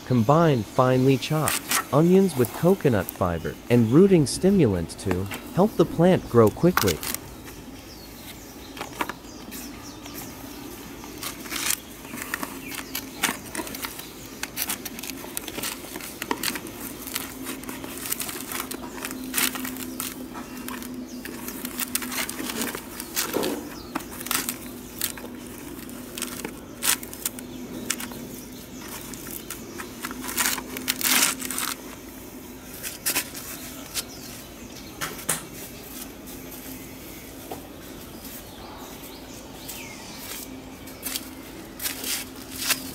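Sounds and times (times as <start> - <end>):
coconut fibre crackling and rustling: 1.2 - 3.6, 4.2 - 37.2, 38.0 - 42.9.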